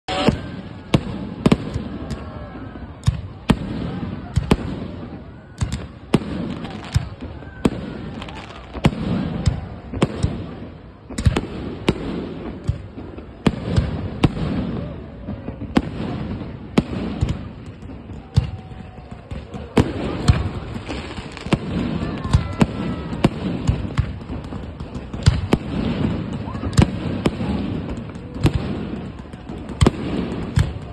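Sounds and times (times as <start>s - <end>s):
fireworks bangs and pops: 0.1s - 30.9s.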